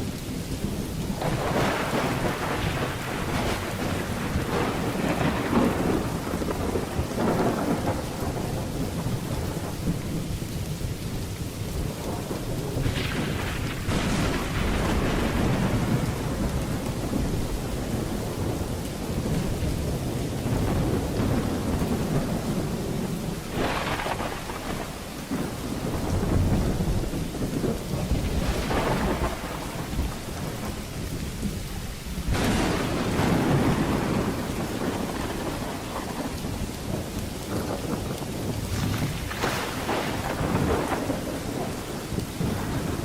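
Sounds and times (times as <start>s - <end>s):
low rumble of thunder: 0.0s - 43.0s
rain falling: 0.0s - 43.0s
sharp thunder bursts: 0.7s - 10.2s, 11.8s - 31.4s, 32.1s - 43.0s.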